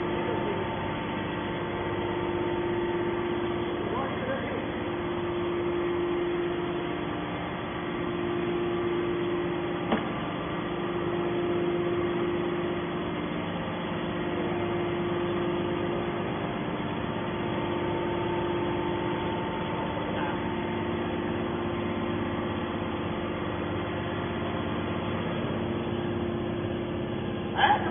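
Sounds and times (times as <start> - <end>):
hydraulic power unit humming: 0.0 - 27.9.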